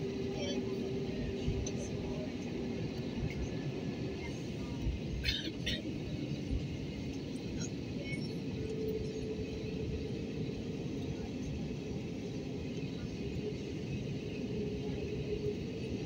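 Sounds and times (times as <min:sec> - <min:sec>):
aircraft engines idling low rumble: 0:00.0 - 0:16.0.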